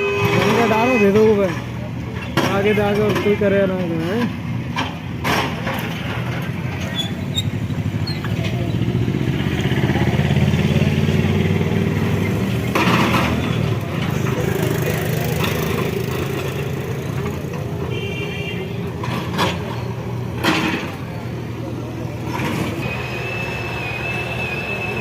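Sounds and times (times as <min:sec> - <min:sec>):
bulldozer diesel engine: 0:00.0 - 0:25.0.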